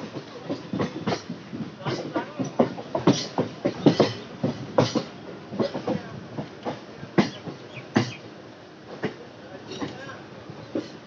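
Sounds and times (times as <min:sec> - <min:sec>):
train wheels clacking over rail joints: 0:00.0 - 0:08.3, 0:08.9 - 0:11.0
train running rumble: 0:00.0 - 0:11.0.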